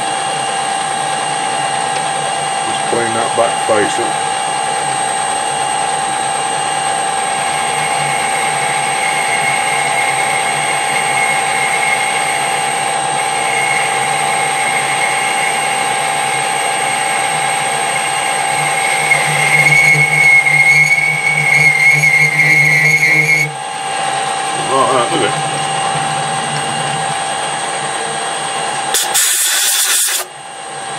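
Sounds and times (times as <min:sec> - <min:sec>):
cutting tool whining on metal: 0:00.0 - 0:30.9
metal lathe whine: 0:00.0 - 0:30.9.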